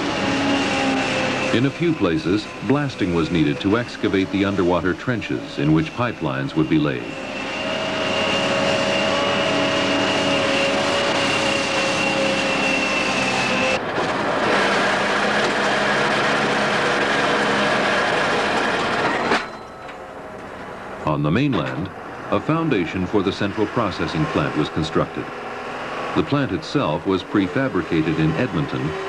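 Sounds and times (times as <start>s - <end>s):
excavator diesel engine droning: 0.0s - 29.0s
high hydraulic whine: 0.0s - 29.0s.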